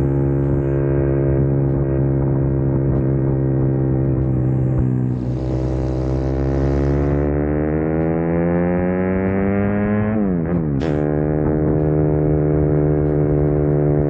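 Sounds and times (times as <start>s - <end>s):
small motorcycle engine: 0.0s - 14.0s.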